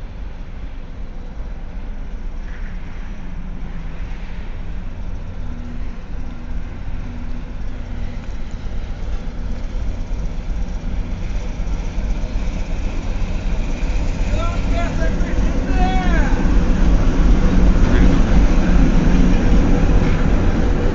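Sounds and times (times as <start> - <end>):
diesel locomotive engine rumbling: 0.0 - 20.9.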